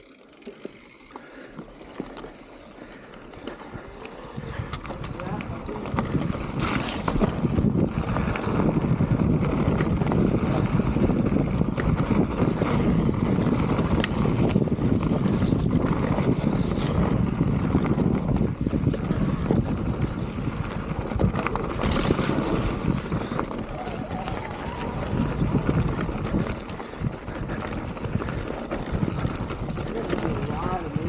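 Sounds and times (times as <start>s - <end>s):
bike rattling over bumps: 0.0s - 31.0s
bike tyres rumbling on dirt: 0.0s - 31.0s
wind buffeting microphone: 3.7s - 31.0s.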